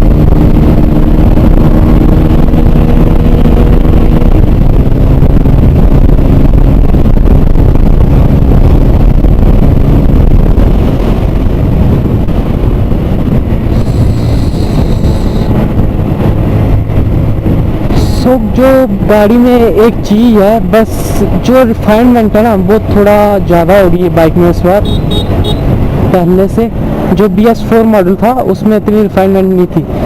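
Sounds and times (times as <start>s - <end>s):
motorcycle engine running hard: 0.0s - 27.8s
wind noise on microphone: 0.0s - 30.0s.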